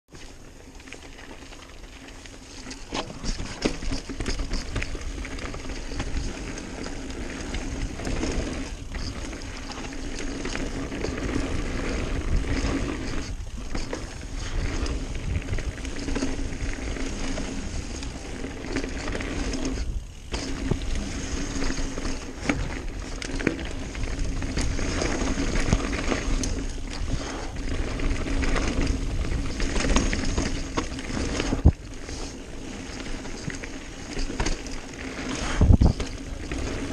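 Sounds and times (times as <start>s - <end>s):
bike clattering over bumps: 0.9s - 36.9s
tyre and wind rush: 4.6s - 36.9s.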